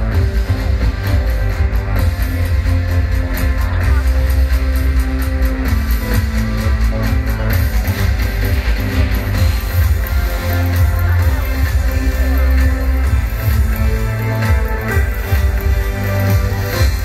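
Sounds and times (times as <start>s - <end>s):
loud music with heavy bass: 0.0s - 17.0s.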